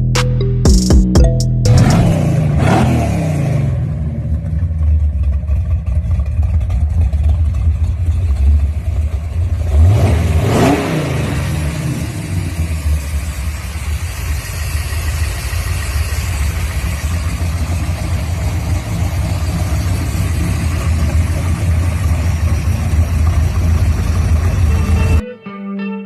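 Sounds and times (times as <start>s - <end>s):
car engine revving and idling: 1.7s - 25.2s.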